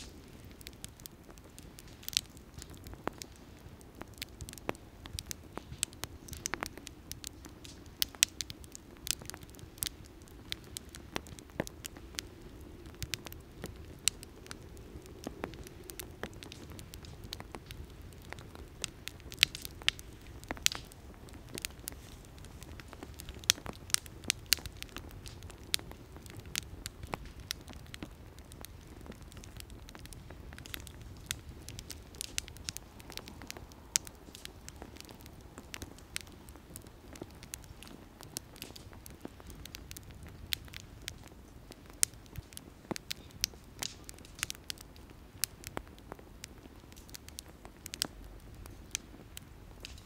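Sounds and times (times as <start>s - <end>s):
campfire crackling and popping: 0.0s - 50.0s
low rumble of flames: 0.0s - 50.0s.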